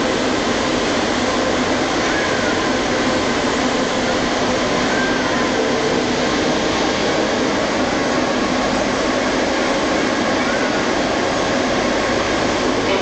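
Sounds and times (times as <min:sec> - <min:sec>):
metro train running: 0:00.0 - 0:13.0.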